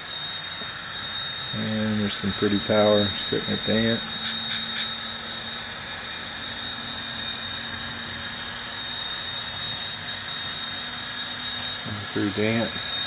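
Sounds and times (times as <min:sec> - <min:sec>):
crackly rail hiss: 0:00.0 - 0:13.0
model train engine drone: 0:00.0 - 0:13.0
thin high whine: 0:00.0 - 0:13.0.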